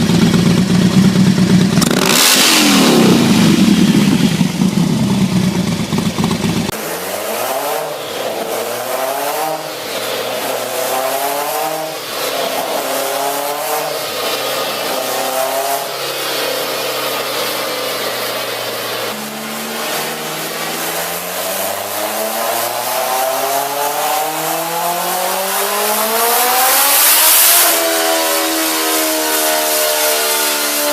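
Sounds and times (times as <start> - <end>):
engine accelerating through gears: 0.0 - 30.9.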